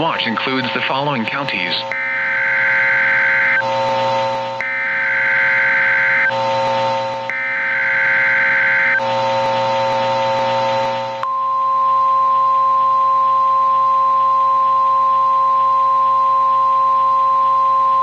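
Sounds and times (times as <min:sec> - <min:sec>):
electronic buzzing alarm tone: 0:01.8 - 0:18.0.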